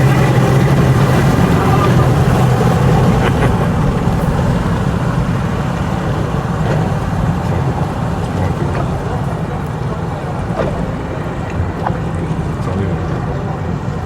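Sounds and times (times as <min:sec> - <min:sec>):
motorboat engine drone: 0:00.0 - 0:14.0.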